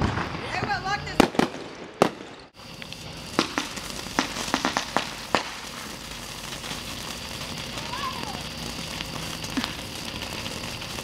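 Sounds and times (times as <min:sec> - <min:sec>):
firework bang: 0:00.0 - 0:11.0
firework sparks hissing: 0:00.0 - 0:11.0
sharp firework cracks: 0:00.0 - 0:11.0.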